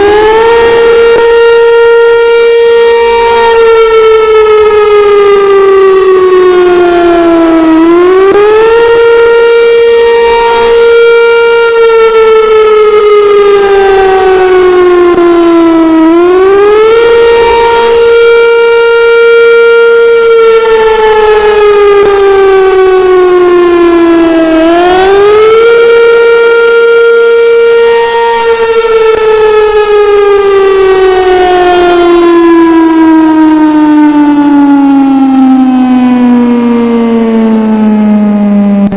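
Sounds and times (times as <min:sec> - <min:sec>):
civil defense siren wailing: 0:00.0 - 0:38.9.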